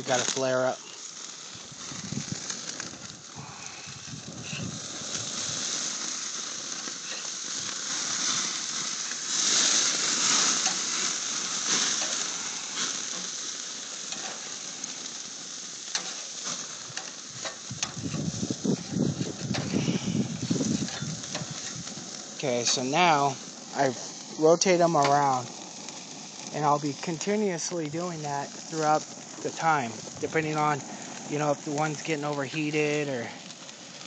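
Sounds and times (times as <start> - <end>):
patties sizzling on a grill: 0.0 - 34.0.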